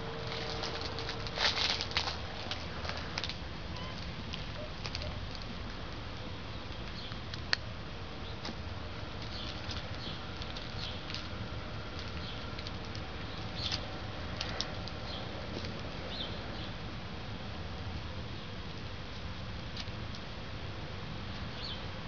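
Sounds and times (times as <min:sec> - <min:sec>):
crackles of dry mulch and leaves: 0:00.0 - 0:22.0.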